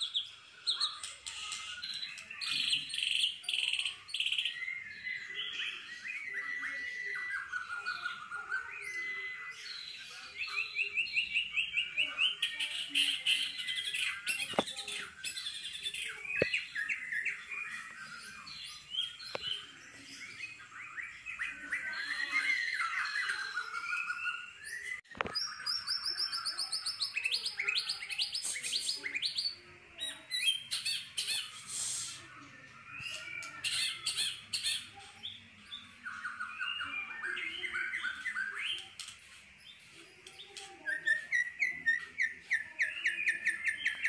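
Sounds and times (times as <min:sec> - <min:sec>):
songbird singing: 0:00.0 - 0:44.0.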